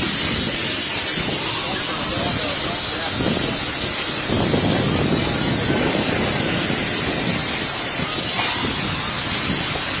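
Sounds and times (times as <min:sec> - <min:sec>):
rough crackling rush: 0:00.0 - 0:10.0
steady loud hiss: 0:00.0 - 0:10.0.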